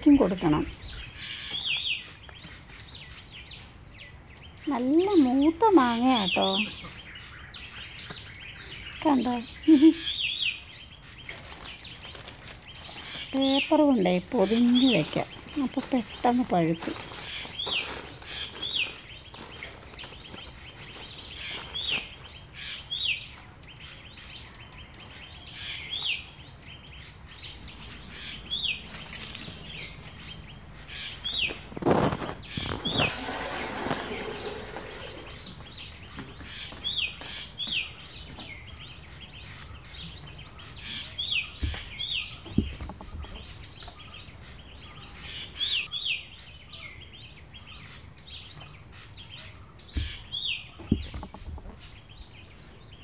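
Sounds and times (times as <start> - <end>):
bird chirping: 0.0 - 53.0
outdoor background noise: 0.0 - 53.0.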